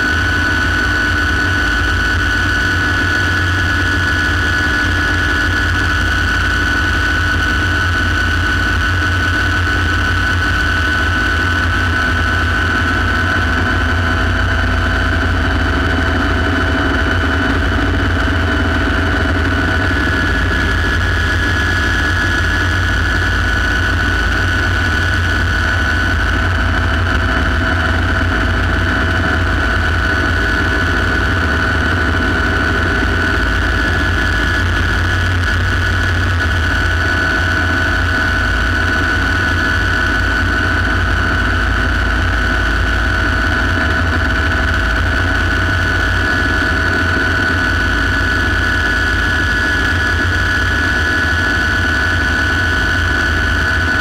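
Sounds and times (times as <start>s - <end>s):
helicopter turbine whine: 0.0s - 54.0s
rotor and engine rumble: 0.0s - 54.0s.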